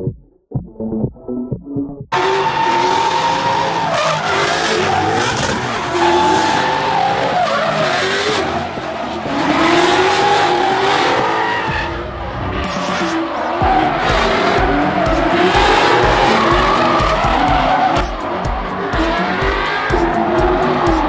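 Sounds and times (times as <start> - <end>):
car engines revving: 2.1 - 21.0
tyres squealing: 2.2 - 21.0.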